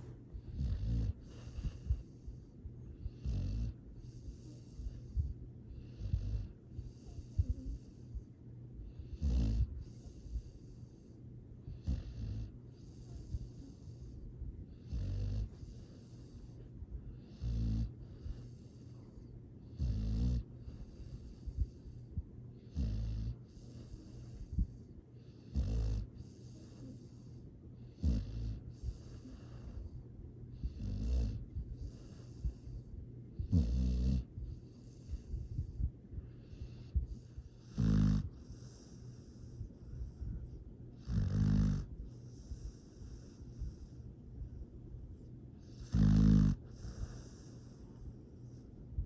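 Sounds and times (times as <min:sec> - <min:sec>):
pet snoring: 0:00.0 - 0:48.7.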